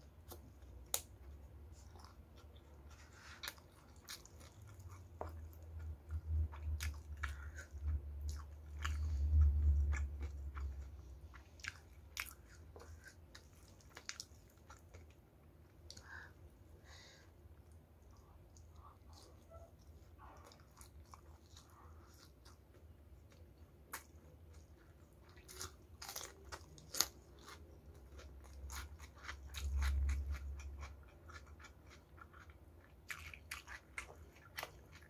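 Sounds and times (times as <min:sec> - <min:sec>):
crunchy chewing: 0:00.2 - 0:15.2, 0:17.6 - 0:35.0.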